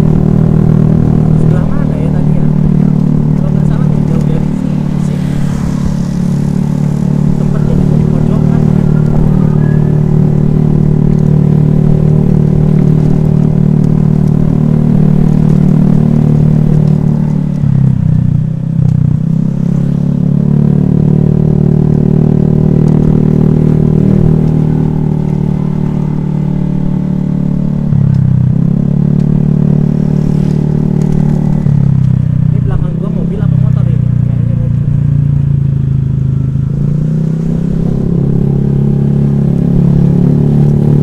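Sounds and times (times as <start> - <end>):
scooter engine running: 0.0 - 41.0.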